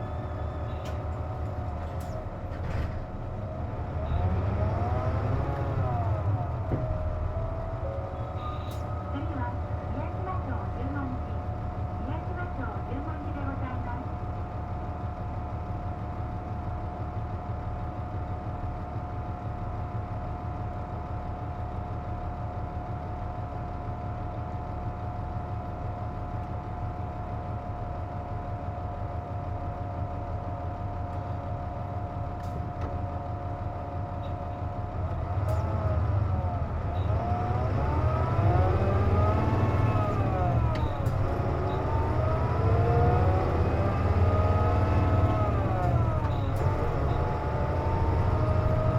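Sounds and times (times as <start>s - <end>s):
diesel bus engine: 0.0s - 48.9s.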